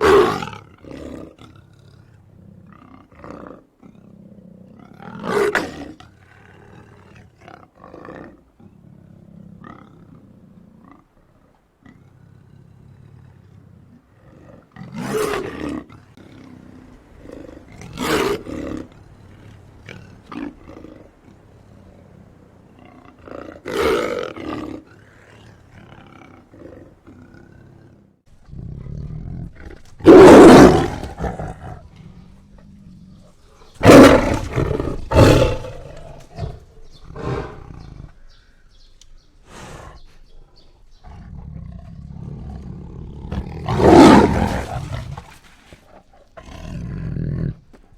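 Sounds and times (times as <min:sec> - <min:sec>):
big-cat roars and snarls: 0:00.0 - 0:11.1, 0:11.8 - 0:22.1, 0:22.7 - 0:38.2, 0:41.0 - 0:47.8.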